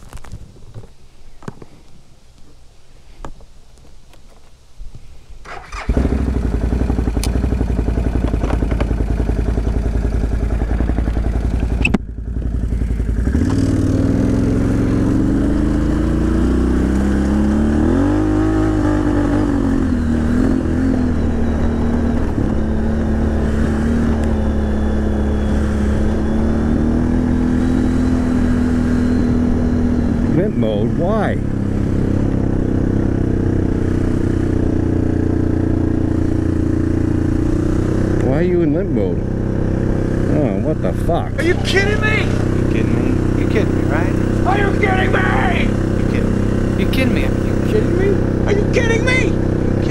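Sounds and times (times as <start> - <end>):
atv engine accelerating: 5.4 - 49.9.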